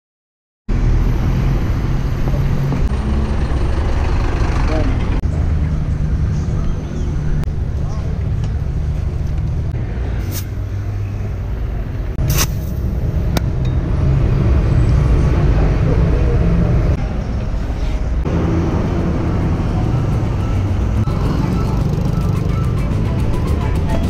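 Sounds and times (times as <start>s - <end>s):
street traffic rumble: 0.7s - 24.0s.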